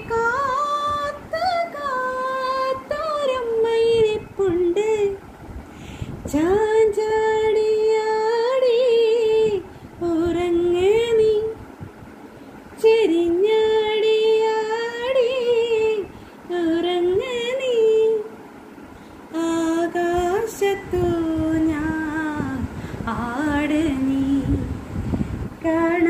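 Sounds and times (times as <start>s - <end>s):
woman singing a lullaby: 0.0s - 5.3s, 6.2s - 11.7s, 12.7s - 18.5s, 19.3s - 25.0s, 25.6s - 26.0s.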